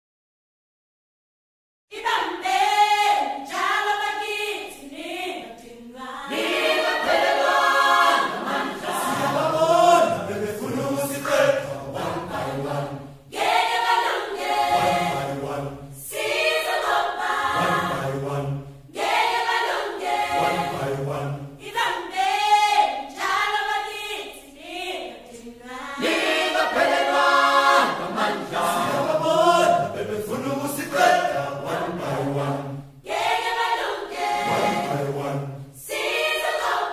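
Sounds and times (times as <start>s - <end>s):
choir singing: 1.9s - 36.9s.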